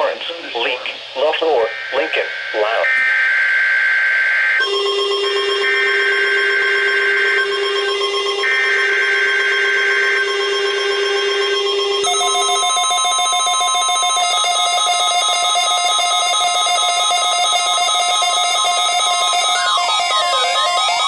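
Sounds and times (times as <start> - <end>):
electronic alarm tone: 1.7 - 21.0.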